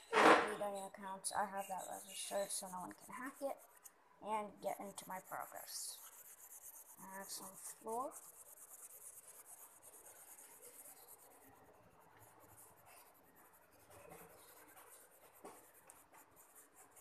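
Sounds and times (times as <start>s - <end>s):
pencil scratching on paper: 0.2s - 17.0s.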